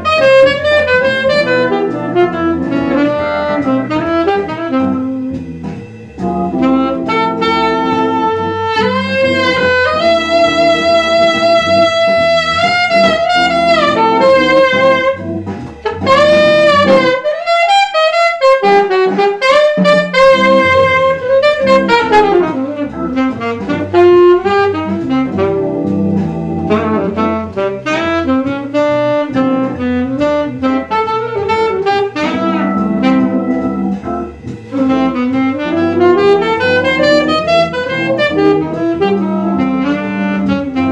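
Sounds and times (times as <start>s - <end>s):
accompaniment with bass line: 0.0s - 40.9s
saxophone playing jazz melody: 0.0s - 40.9s.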